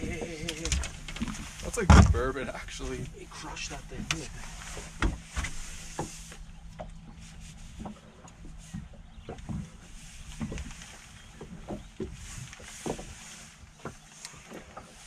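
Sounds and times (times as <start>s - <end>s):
knocks and thumps in a boat: 0.0s - 15.0s.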